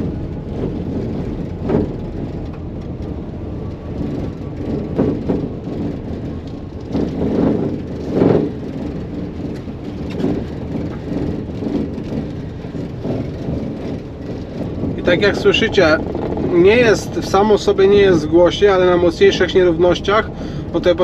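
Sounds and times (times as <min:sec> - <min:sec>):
cargo panels knocking and rattling: 0:00.0 - 0:21.0
tyre rumble over cobblestones: 0:00.0 - 0:21.0.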